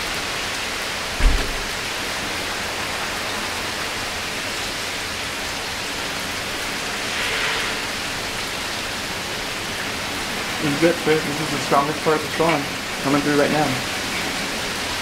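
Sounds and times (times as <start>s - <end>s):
heavy rain on pavement and cars: 0.0s - 15.0s.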